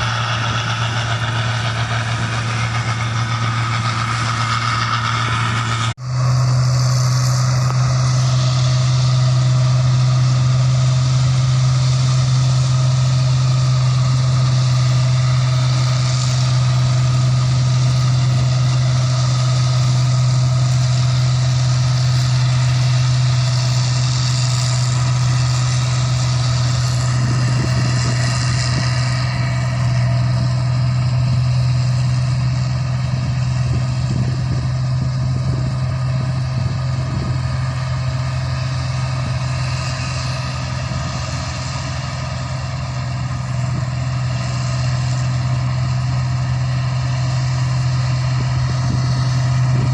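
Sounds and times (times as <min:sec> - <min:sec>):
combine harvester engine humming: 0:00.0 - 0:49.9.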